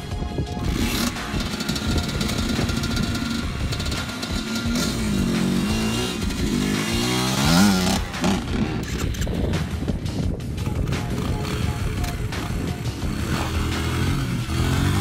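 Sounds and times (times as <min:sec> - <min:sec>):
background music: 0:00.0 - 0:15.0
dirt bike engine revving: 0:00.6 - 0:09.7, 0:10.6 - 0:15.0.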